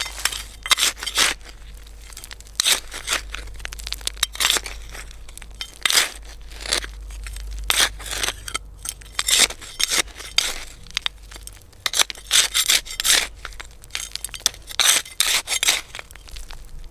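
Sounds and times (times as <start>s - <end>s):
trowel scraping soil: 0.0s - 16.9s.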